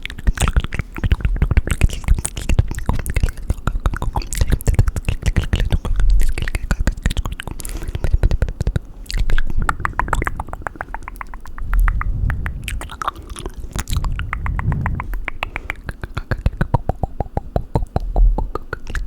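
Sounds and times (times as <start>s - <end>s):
wet mouth clicking and smacking: 0.0s - 19.0s.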